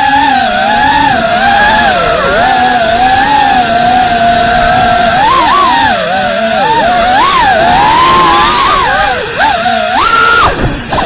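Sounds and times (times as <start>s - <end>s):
quadcopter propellers whining: 0.0s - 11.0s.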